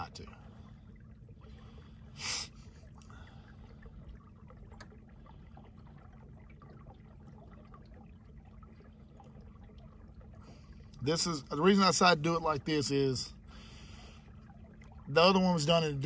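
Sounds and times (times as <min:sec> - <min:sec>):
faint electric motor hum: 0:00.0 - 0:16.0
water lapping against boat hull: 0:00.0 - 0:16.0.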